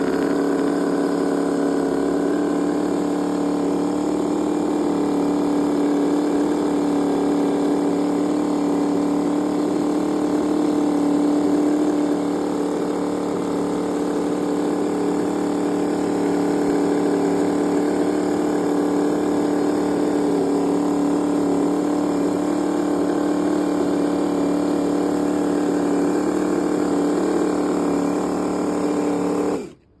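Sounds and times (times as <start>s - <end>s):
model engine running: 0.0s - 30.0s.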